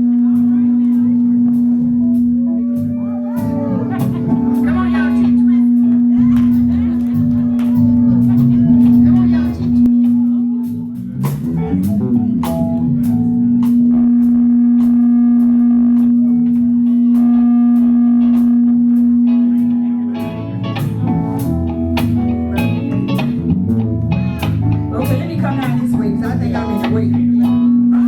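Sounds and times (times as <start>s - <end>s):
electric guitar: 0.0s - 28.0s
drums with cymbal hits: 0.2s - 23.8s
live band playing: 0.2s - 28.0s.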